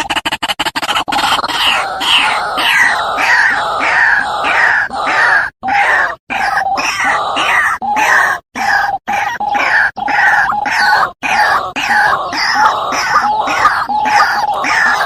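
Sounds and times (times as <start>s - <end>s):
waterhen harsh calls: 0.4s - 15.0s.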